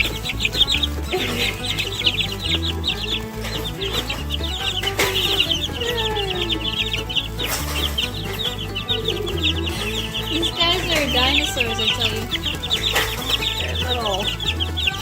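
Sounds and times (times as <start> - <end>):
background music: 0.0 - 15.0
chicks peeping: 0.0 - 15.0.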